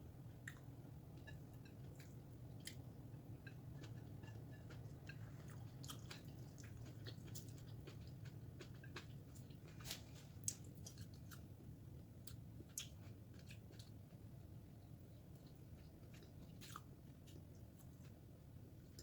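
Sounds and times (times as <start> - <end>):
person chewing food: 0.3 - 14.5, 15.2 - 18.3.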